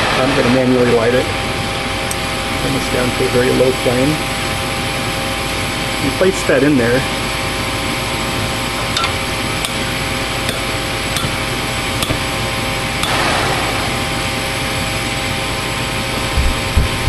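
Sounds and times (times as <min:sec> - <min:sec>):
furnace fan humming: 0:00.0 - 0:17.0.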